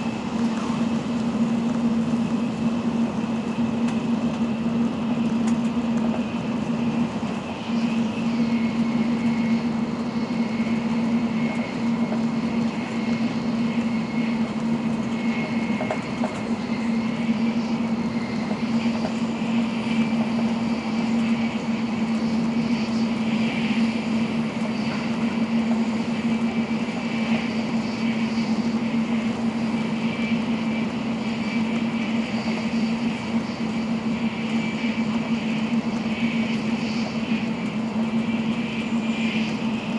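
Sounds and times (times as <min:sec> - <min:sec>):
faint high whine: 0:00.0 - 0:39.9
train cabin running rumble: 0:00.0 - 0:39.9.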